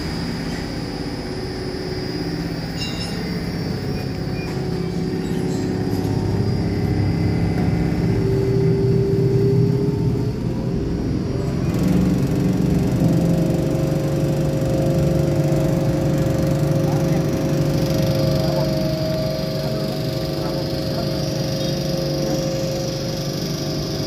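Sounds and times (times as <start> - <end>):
powder mixer motor humming: 0.0 - 24.0.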